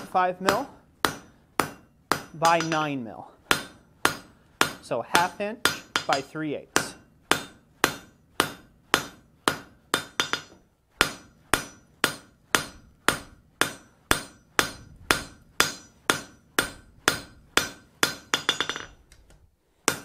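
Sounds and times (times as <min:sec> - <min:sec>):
hammer striking steel on anvil: 0:00.5 - 0:19.0.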